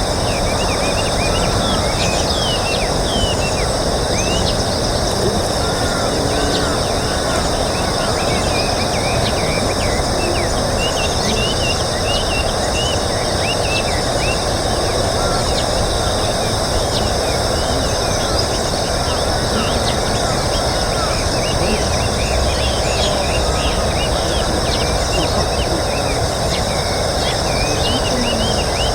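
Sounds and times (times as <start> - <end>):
bird chirps: 0.0 - 28.9.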